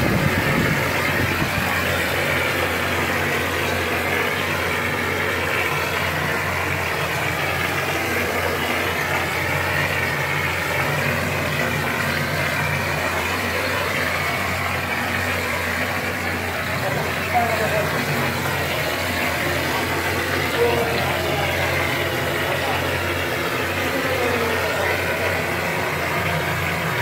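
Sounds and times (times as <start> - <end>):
plaster spraying machine hum: 0.0 - 27.0.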